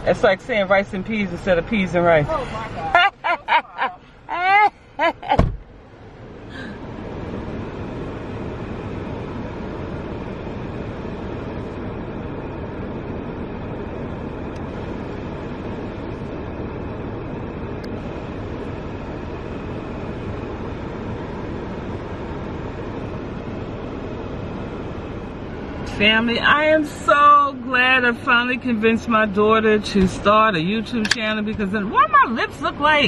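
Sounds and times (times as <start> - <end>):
moving vehicle rumbling: 0.0 - 33.0.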